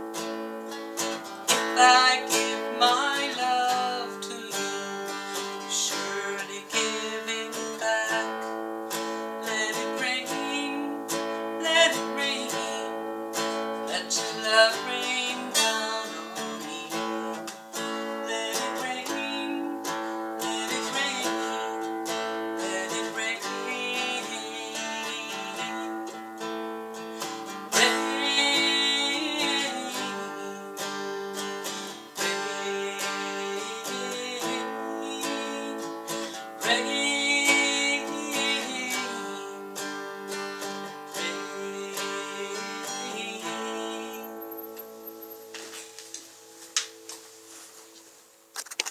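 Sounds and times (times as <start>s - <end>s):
acoustic guitar strummed and picked: 0.0s - 48.9s.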